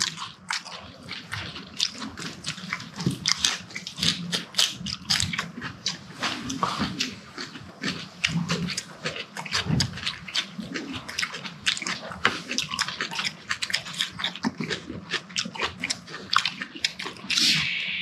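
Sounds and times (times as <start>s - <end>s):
people chewing and lip smacking: 0.0s - 17.8s.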